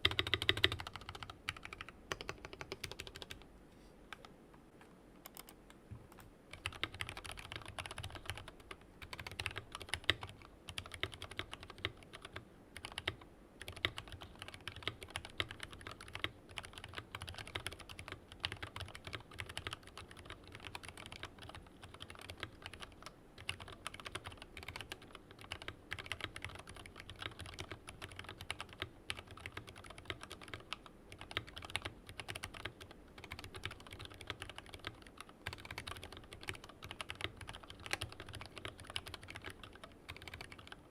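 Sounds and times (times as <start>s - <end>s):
mechanical keyboard typing: 0.0s - 3.4s, 5.2s - 40.8s.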